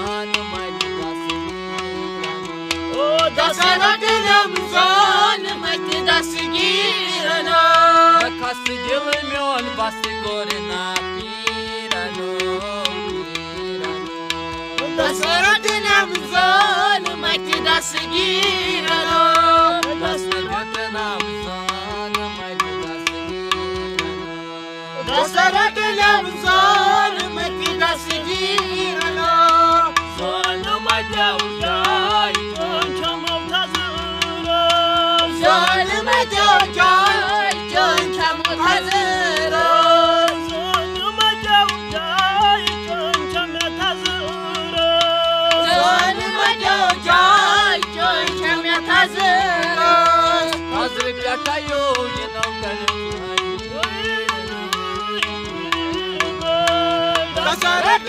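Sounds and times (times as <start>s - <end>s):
men singing: 0.0s - 14.0s, 14.7s - 23.3s, 25.0s - 58.0s
harmonium chords: 0.0s - 58.0s.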